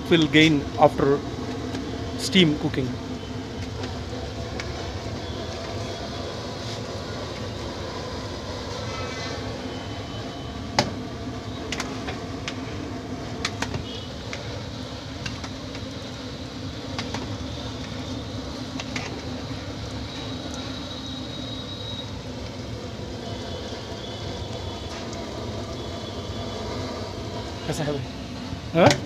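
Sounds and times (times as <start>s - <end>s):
gas burner roaring: 0.0s - 29.0s
water boiling: 0.0s - 29.0s.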